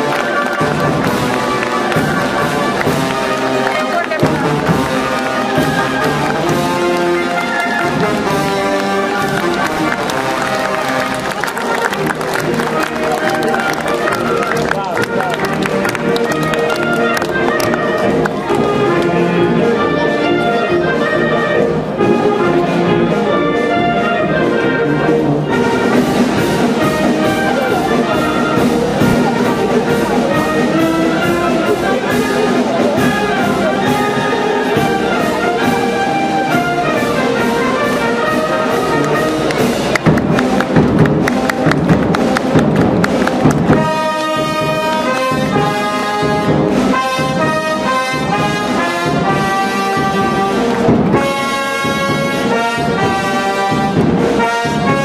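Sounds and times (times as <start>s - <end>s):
solo trumpet and brass: 0.0s - 55.0s
wind band playing: 0.0s - 55.0s.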